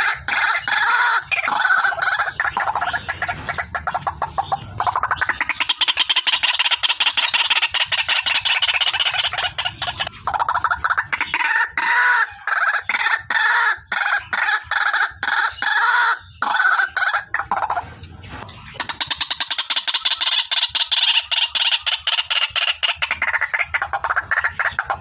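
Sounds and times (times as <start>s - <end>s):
waterhen calling: 0.0s - 25.0s.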